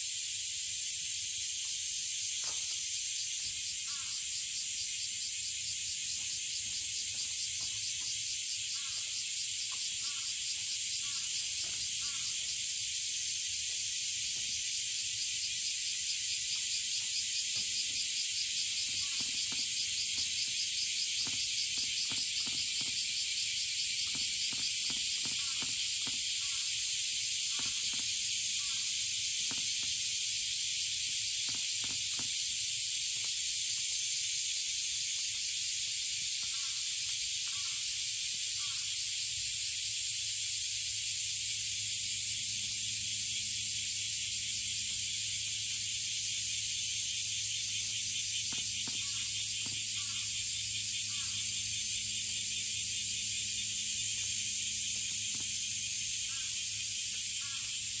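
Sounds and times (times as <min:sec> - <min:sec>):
cicadas chorus: 0:00.0 - 0:58.0.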